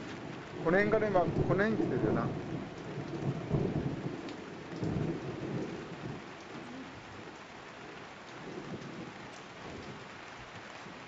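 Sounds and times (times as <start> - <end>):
rain falling: 0.0 - 11.0
low rumble of thunder: 0.2 - 10.6.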